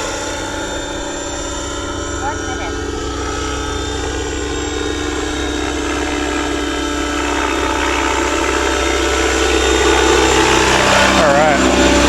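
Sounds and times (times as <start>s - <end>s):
rc helicopter motor whine: 0.0s - 12.0s
rotor blades humming: 0.0s - 12.0s.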